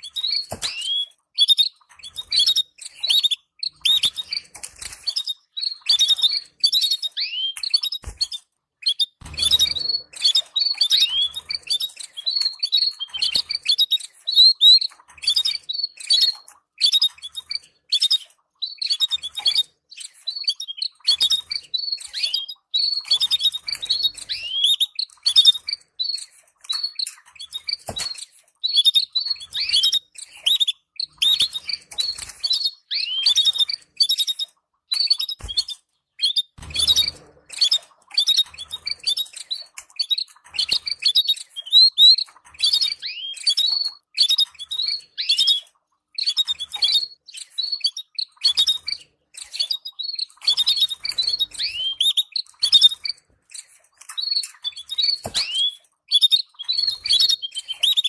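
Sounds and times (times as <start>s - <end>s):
canaries twittering: 0.0s - 58.0s.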